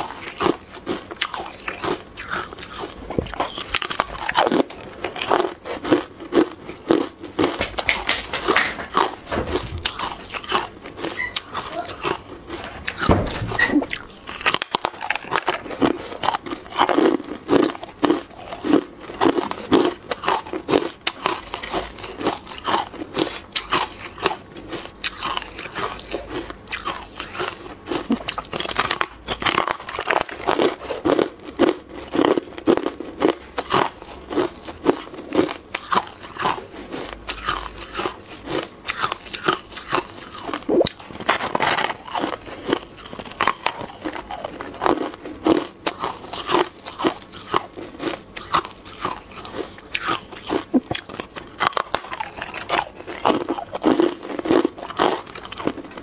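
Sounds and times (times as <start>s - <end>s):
chewing crunchy ice: 0.0s - 13.1s, 13.8s - 56.0s.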